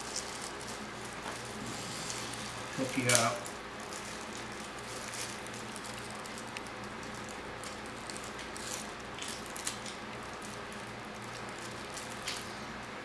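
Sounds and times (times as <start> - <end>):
plastic packaging rustling: 0.0 - 12.8
steady low hum: 0.0 - 13.0.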